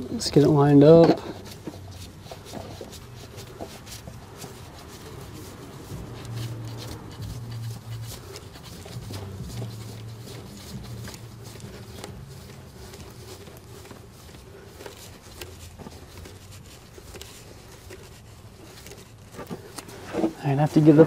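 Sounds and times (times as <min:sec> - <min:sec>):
hands rustling and clicking: 0:00.0 - 0:21.0
steady low hum: 0:00.0 - 0:21.0.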